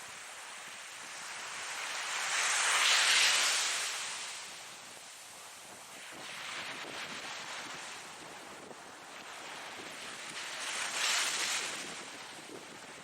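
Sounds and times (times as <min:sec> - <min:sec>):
ocean waves washing in: 0:00.0 - 0:13.0.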